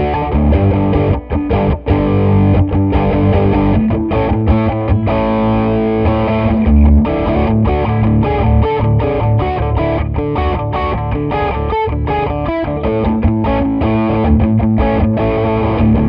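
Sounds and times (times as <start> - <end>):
distorted electric guitar riff: 0.0 - 16.0.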